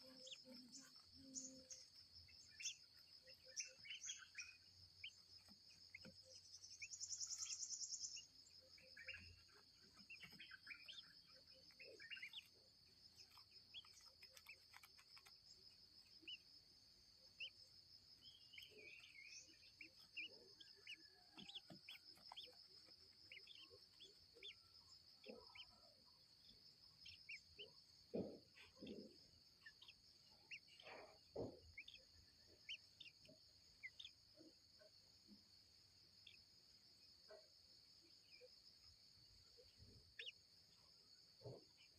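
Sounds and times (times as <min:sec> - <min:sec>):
bird chirps and calls: 0:00.0 - 0:16.5, 0:17.3 - 0:34.9
insects droning: 0:00.0 - 0:41.9.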